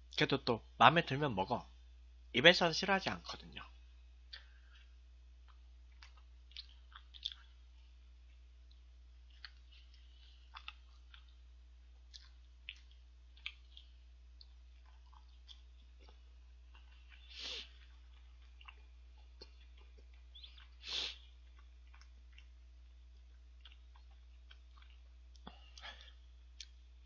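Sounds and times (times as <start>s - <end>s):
chewing with mouth clicks: 4.3s - 26.9s.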